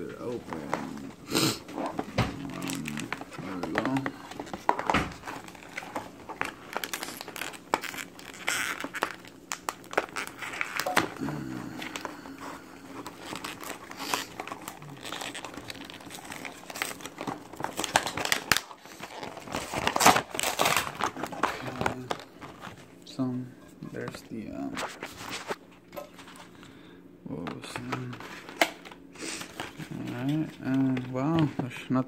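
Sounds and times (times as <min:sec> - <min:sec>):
packaging crinkling and tearing: 0:00.0 - 0:26.6, 0:27.6 - 0:31.7.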